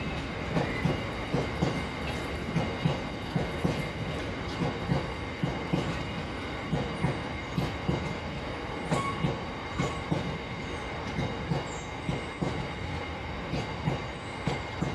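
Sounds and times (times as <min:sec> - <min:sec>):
train rolling rumble: 0:00.0 - 0:14.9
train wheels clicking over rail joints: 0:00.0 - 0:14.9.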